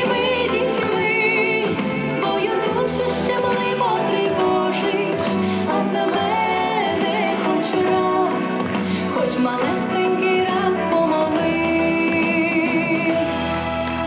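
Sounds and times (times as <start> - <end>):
woman singing: 0.0 - 13.9
instrumental accompaniment: 0.0 - 14.0.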